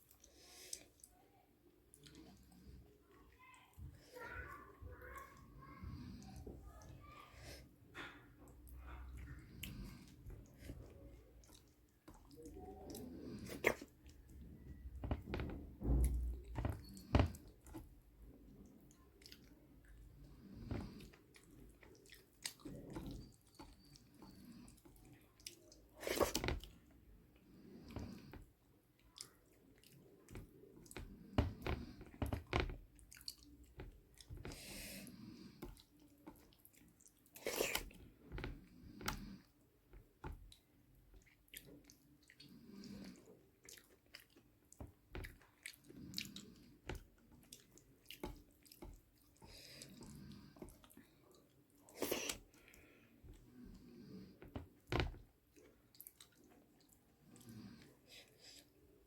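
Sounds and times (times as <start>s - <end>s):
person chewing food: 8.0s - 59.0s.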